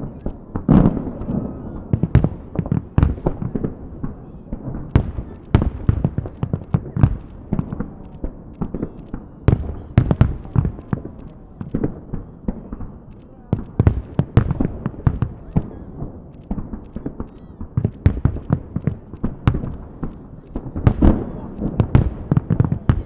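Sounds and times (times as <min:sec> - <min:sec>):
firework bangs: 0:00.0 - 0:23.0.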